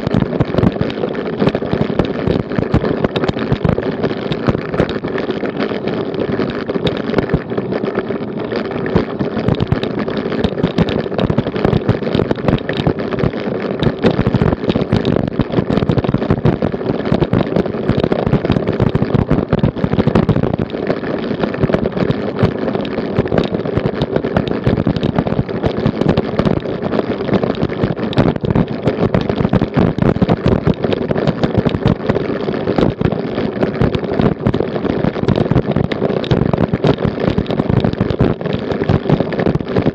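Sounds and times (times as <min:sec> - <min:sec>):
bike rattling over cobblestones: 0:00.0 - 0:39.9.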